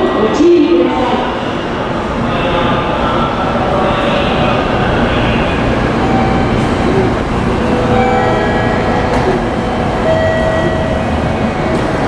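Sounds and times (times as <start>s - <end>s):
train and station rumble: 0.0s - 12.0s.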